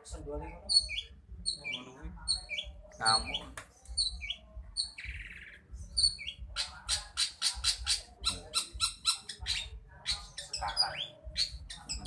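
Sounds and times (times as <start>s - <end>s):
bird scratchy repeated notes: 0.4s - 12.0s
shrike calling: 0.6s - 12.0s.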